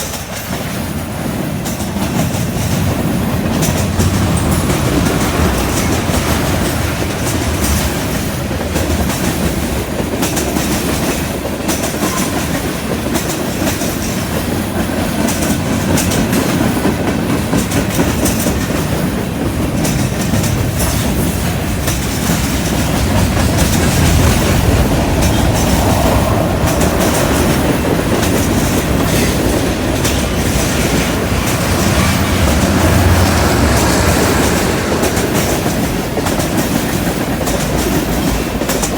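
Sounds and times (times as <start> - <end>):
train wheels rumbling and clacking: 0.0 - 38.9.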